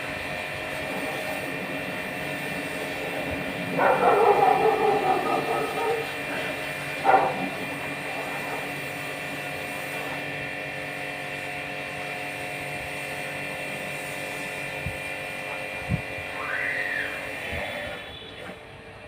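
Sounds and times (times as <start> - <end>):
motor humming with pitched tones: 0.0 - 19.0.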